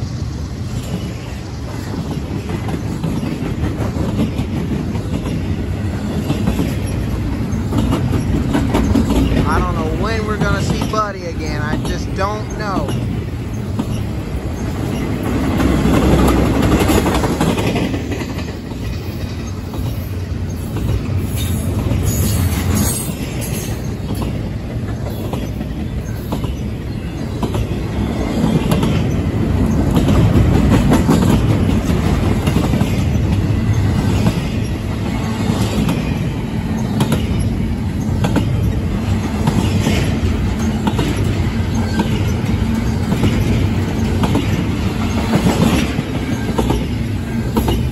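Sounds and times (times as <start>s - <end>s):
train wheels rumbling on rail: 0.0s - 47.9s
wheels clicking over rail joints: 0.7s - 47.9s.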